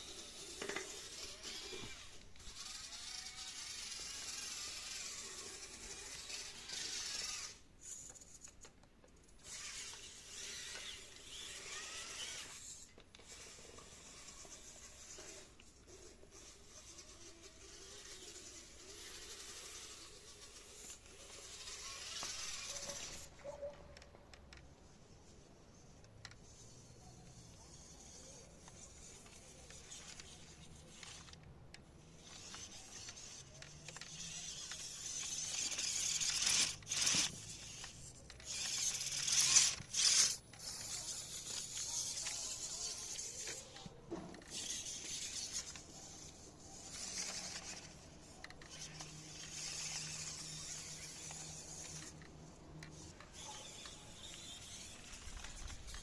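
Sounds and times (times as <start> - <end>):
toy car motor whirring: 0.0 - 56.0.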